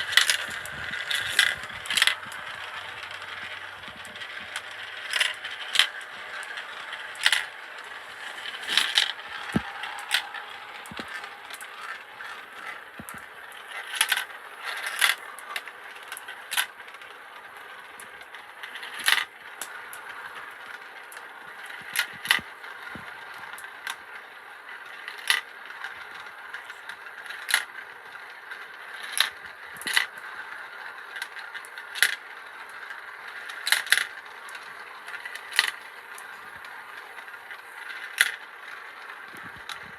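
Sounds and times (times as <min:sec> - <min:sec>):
marbles clicking on track: 0:00.0 - 0:39.9
marbles rolling rattle: 0:00.0 - 0:39.9.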